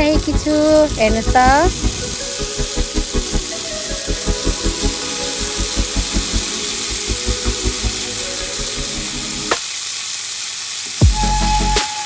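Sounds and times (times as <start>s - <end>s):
background music with beat: 0.0s - 9.6s, 11.0s - 12.0s
meat sizzling in a pan: 0.6s - 12.0s.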